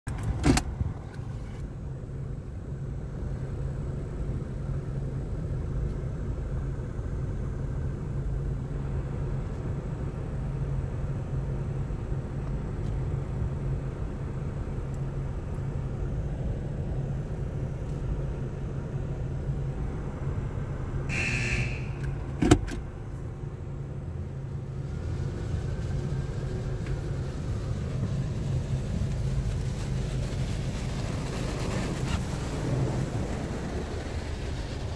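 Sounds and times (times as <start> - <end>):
car wash equipment humming: 0.1 - 34.9.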